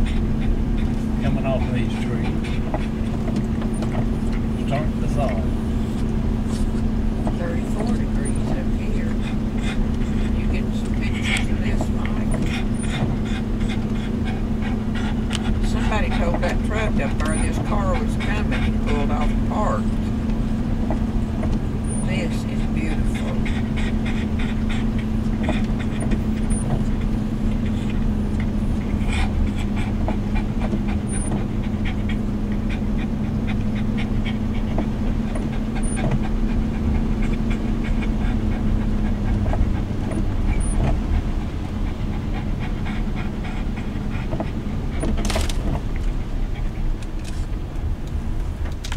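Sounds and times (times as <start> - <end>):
constant hum: 0.0 - 48.9
road and engine rumble: 0.0 - 48.9.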